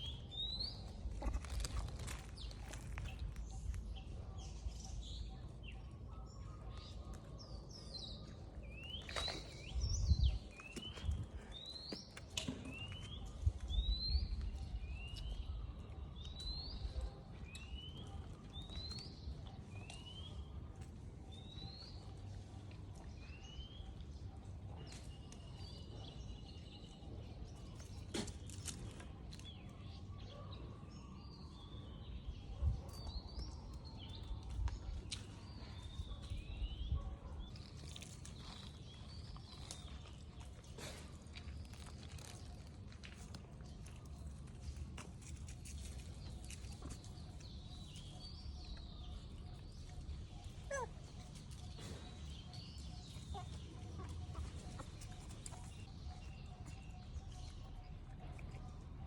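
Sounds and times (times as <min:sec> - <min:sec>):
outdoor ambience: 0:00.0 - 0:59.0.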